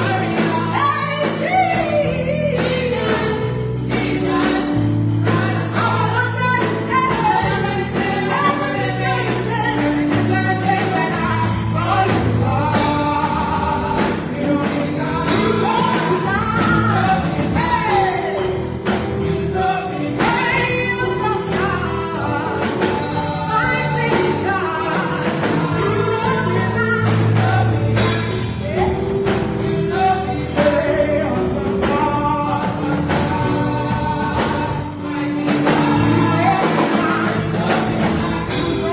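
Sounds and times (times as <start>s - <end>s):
gospel choir singing with band: 0.0s - 38.9s.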